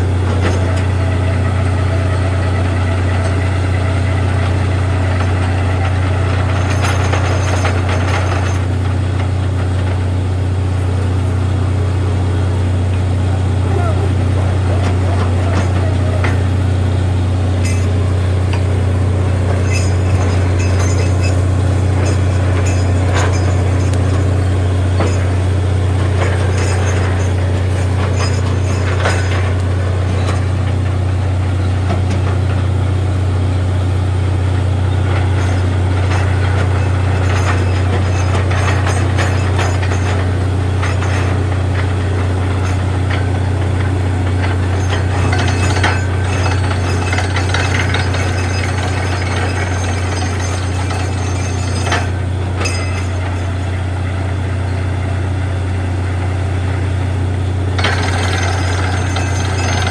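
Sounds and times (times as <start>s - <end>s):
drilling rig engine drone: 0.0s - 59.9s.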